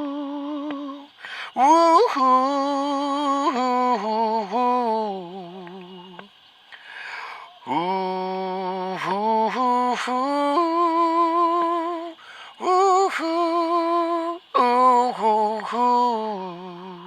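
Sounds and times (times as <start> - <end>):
person singing wordless notes: 0.0 - 6.3, 7.6 - 17.0.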